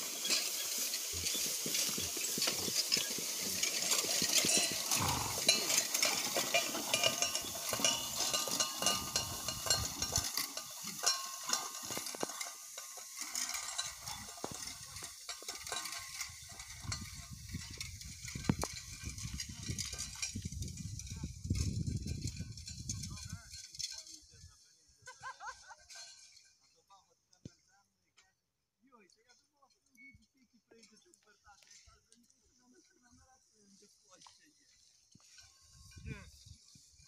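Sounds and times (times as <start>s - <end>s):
crackling rustle of dry hay: 0.0s - 26.9s, 30.3s - 37.0s.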